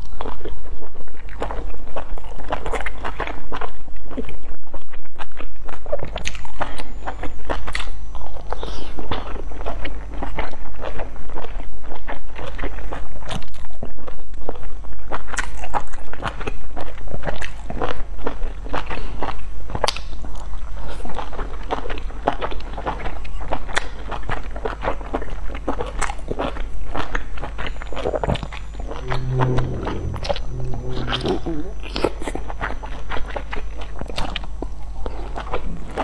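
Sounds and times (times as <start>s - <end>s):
chewing soft buns: 0.0s - 31.3s, 31.9s - 36.0s.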